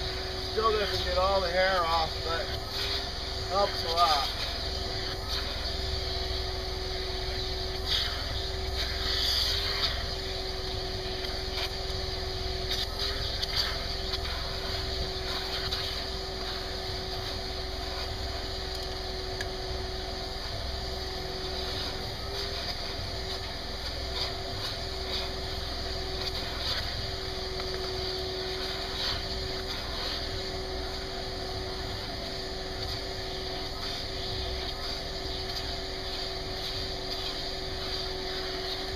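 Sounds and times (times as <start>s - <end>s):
shop vacuum whining: 0.0s - 38.9s.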